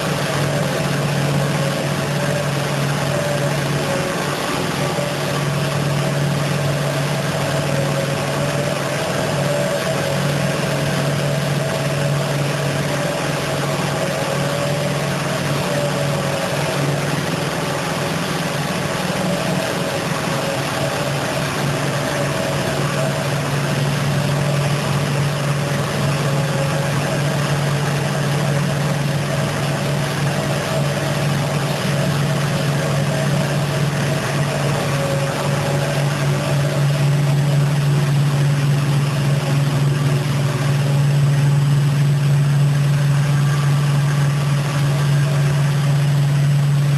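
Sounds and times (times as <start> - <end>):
carpet washing machine motor hum: 0.0 - 46.9
wavering whine: 0.0 - 46.9.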